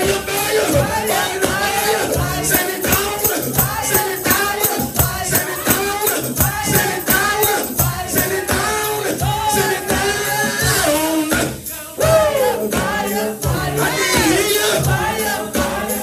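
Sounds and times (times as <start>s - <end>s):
gospel singing over a band: 0.0s - 16.0s.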